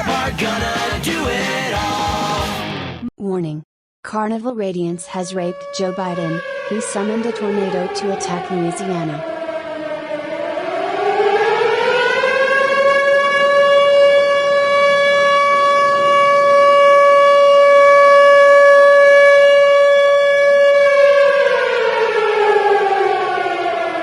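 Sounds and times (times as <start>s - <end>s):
siren wailing: 4.6s - 24.0s.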